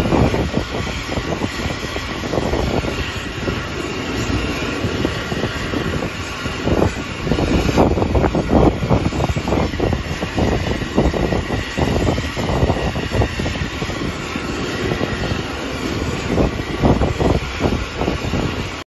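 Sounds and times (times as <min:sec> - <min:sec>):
aircraft engine roar: 0:00.0 - 0:18.9.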